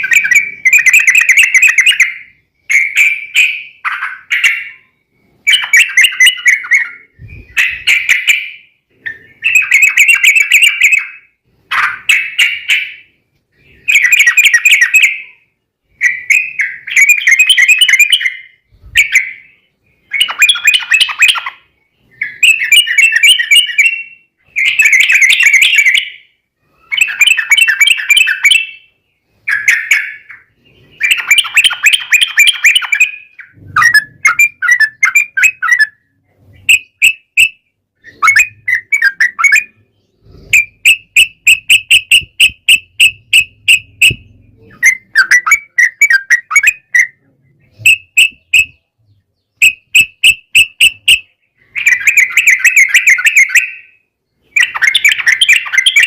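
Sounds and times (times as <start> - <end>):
bird singing bubbly phrases: 0.0 - 56.0.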